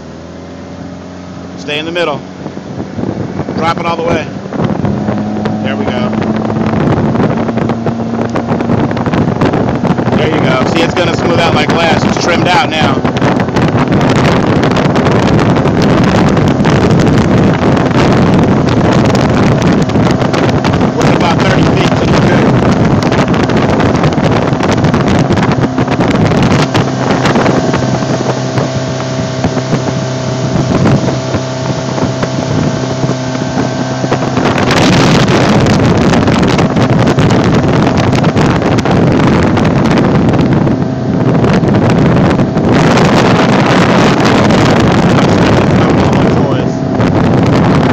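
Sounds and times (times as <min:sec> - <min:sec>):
motorboat engine drone: 0:00.0 - 0:47.9
wind buffeting microphone: 0:00.0 - 0:47.9.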